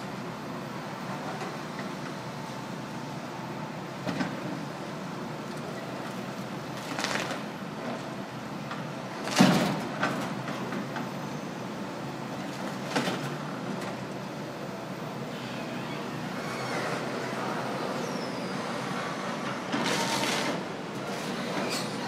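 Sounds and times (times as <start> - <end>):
excavator engine hum: 0.0 - 22.0.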